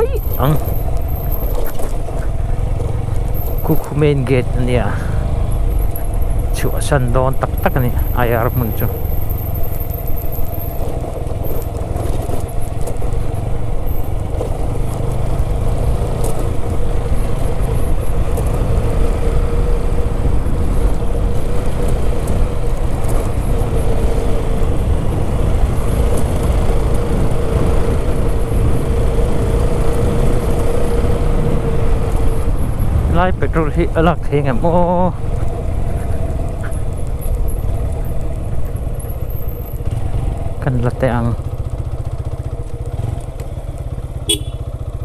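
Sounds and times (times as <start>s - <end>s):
motorcycle engine rumbling: 0.0s - 45.0s.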